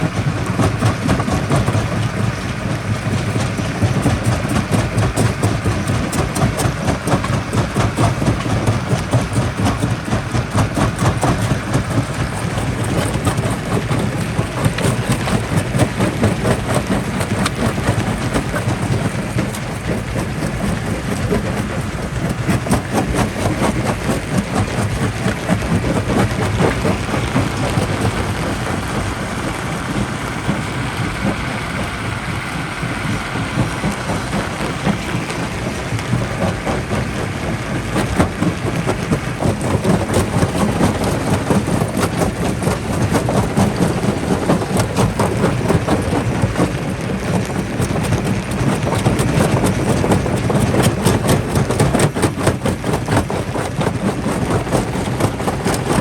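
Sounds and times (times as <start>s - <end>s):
rock crusher machine drone: 0.0s - 56.0s.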